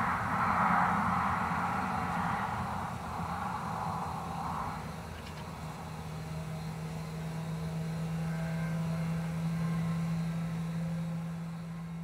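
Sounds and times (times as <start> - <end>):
steady low drone: 0.0 - 12.0.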